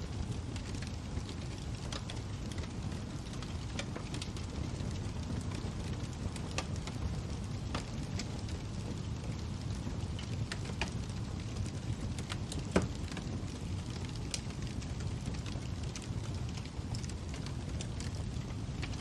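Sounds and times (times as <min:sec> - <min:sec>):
low fire rumble: 0:00.0 - 0:19.0
wood fire crackling: 0:00.0 - 0:19.0.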